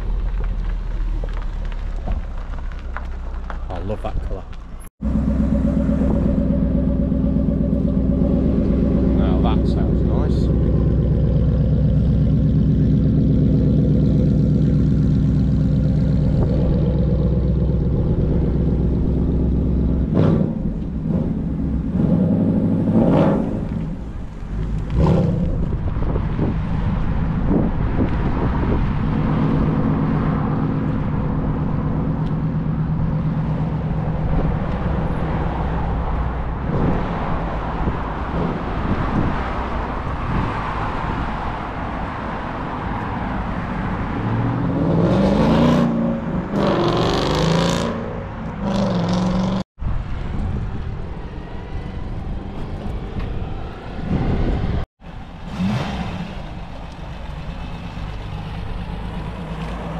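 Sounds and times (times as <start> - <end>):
car engines running: 0.0 - 59.9
car revving and pulling away: 0.0 - 59.9.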